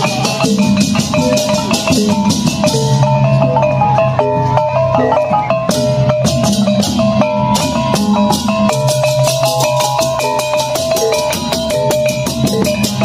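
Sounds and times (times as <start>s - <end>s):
drum: 0.0s - 13.0s.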